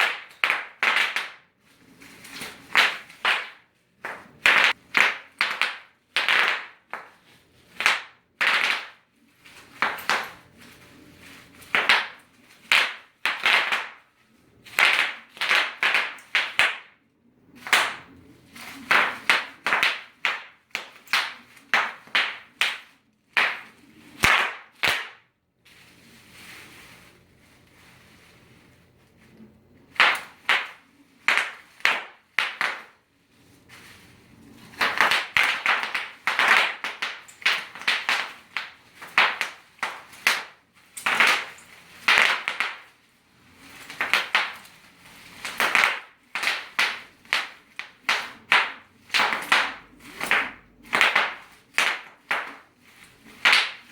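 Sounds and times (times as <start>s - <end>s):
bubble wrap popping: 0.0s - 53.9s
plastic crinkling: 0.0s - 53.9s.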